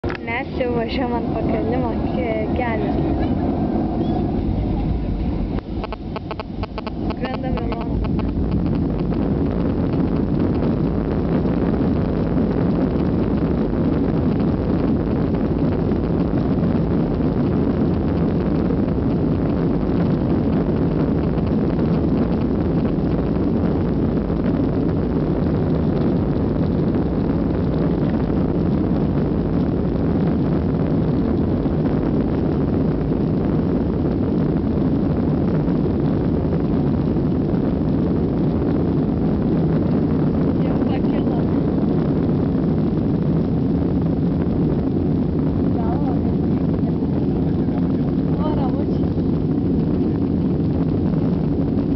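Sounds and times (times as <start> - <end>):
jet engines roaring in cabin: 0.0 - 51.9.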